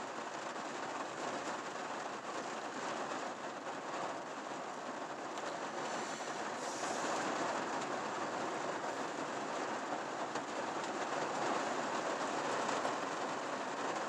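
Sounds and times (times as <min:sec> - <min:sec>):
heavy rain on vehicle roof: 0:00.0 - 0:14.0.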